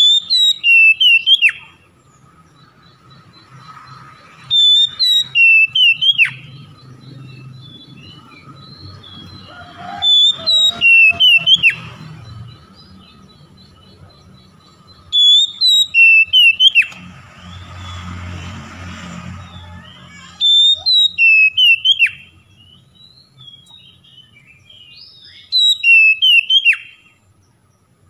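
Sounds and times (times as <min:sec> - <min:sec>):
bird singing whistled notes: 0:00.0 - 0:18.1, 0:19.4 - 0:27.9.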